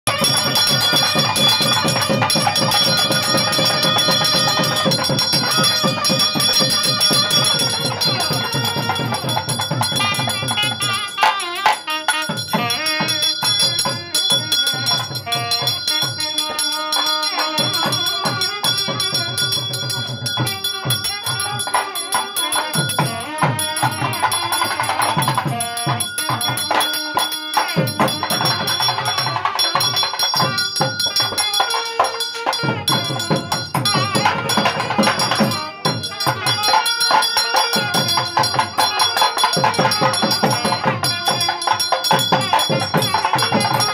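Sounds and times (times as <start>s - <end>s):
barrel drum fast rhythms: 0.0s - 43.9s
bell ringing: 0.1s - 43.9s
double-reed wind melody: 0.1s - 43.9s.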